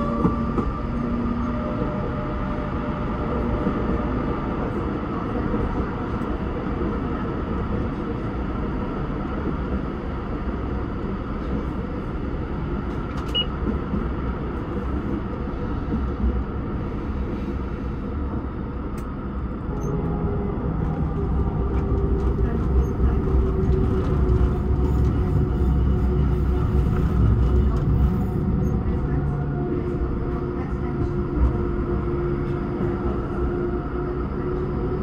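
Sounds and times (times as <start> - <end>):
tram wheels rumbling on rail: 0.0 - 35.0.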